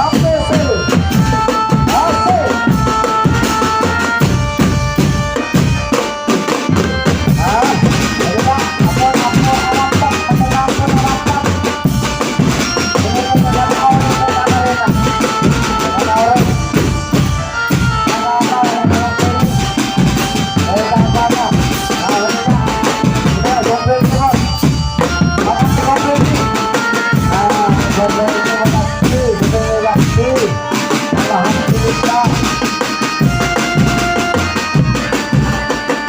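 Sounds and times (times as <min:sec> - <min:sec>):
hand drums playing: 0:00.0 - 0:36.0
ringing tones: 0:00.0 - 0:36.0
wavering high melody: 0:00.0 - 0:36.0.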